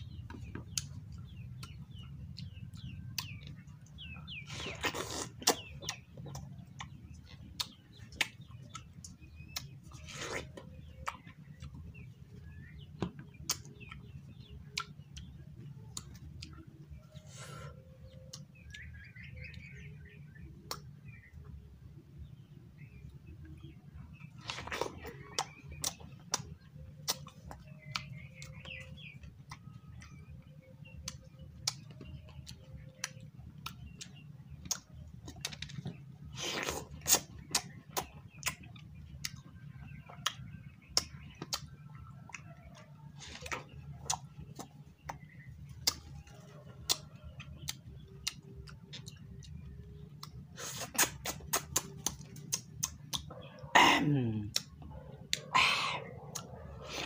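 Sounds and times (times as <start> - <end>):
wet chewing and smacks: 0.0 - 21.6, 22.3 - 53.8, 54.5 - 57.0.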